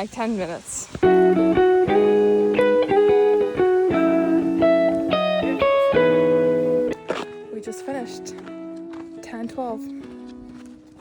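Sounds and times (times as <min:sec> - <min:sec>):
guitar playing chords: 0:01.0 - 0:11.0.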